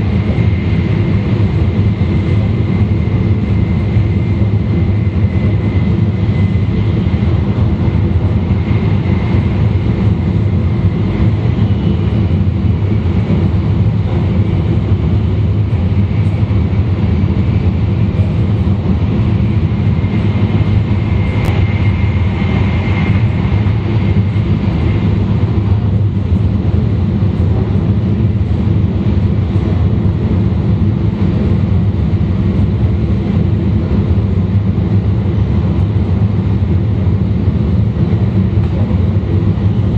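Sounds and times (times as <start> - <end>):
train rumbling with high whine: 0.0 - 39.9.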